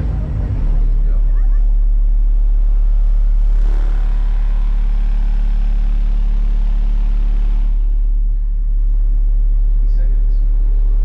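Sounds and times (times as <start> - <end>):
subwoofer bass note: 0.0 - 11.0.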